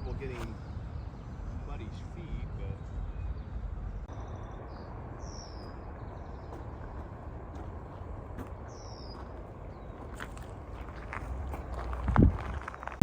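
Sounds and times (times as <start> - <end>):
birds calling: 0.0 - 13.0
low background rumble: 0.0 - 13.0.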